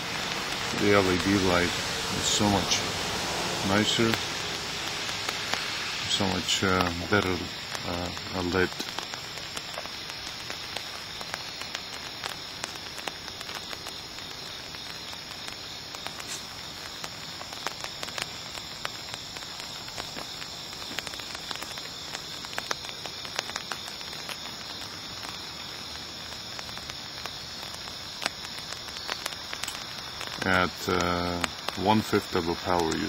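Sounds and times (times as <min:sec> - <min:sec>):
rain drops ticking: 0:00.0 - 0:33.0
rain hiss: 0:00.0 - 0:33.0.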